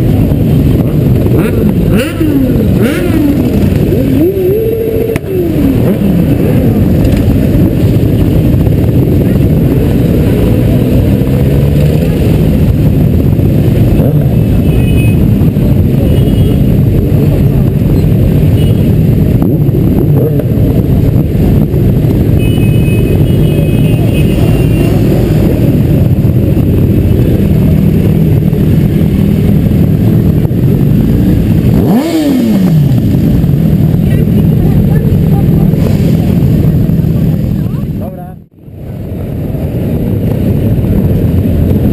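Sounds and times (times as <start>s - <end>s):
motorcycle engine revving: 0.0s - 38.6s.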